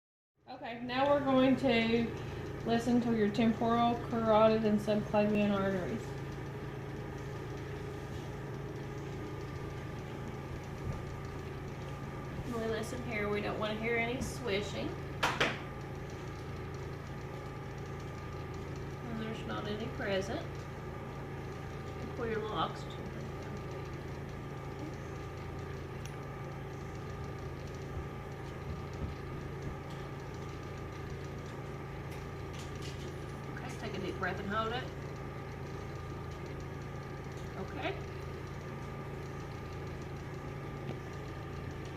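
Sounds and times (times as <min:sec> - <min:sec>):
machinery humming: 0:00.5 - 0:41.9.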